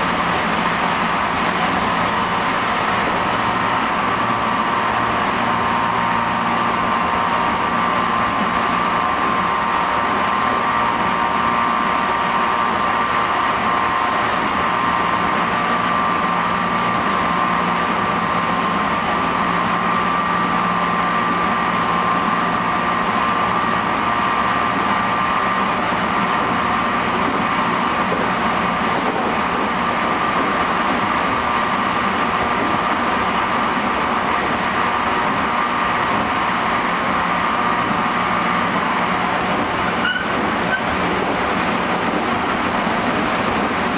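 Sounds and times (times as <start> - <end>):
wheels rumbling on rail: 0.0 - 43.9.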